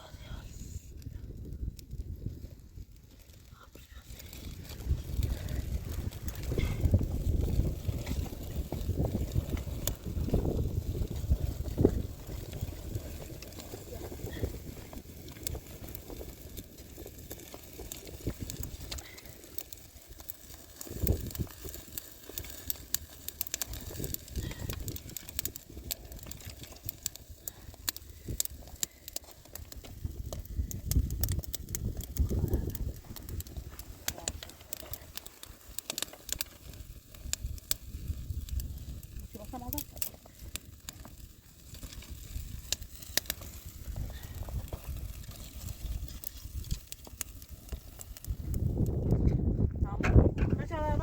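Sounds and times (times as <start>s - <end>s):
gusty low rumble: 0.0s - 19.3s, 20.8s - 22.3s, 23.0s - 35.5s, 36.6s - 51.0s.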